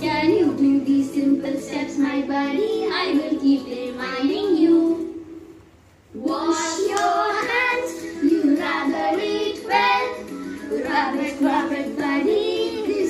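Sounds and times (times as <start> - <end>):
backing music: 0.0 - 5.5, 6.2 - 13.0.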